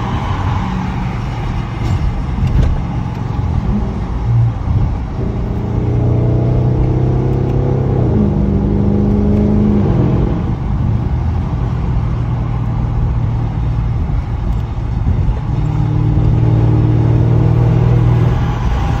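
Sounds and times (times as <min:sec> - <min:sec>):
road rumble: 0:00.0 - 0:19.0.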